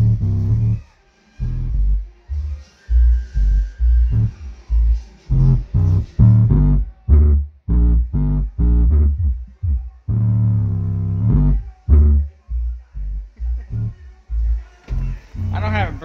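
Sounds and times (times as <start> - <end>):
bass-heavy music over speaker: 0.0 - 16.0.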